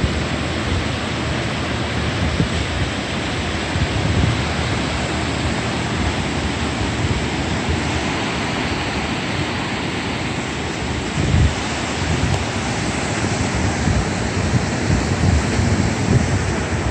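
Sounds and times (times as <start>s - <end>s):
ocean surf washing in: 0.0s - 16.9s
wind buffeting microphone: 0.0s - 16.9s.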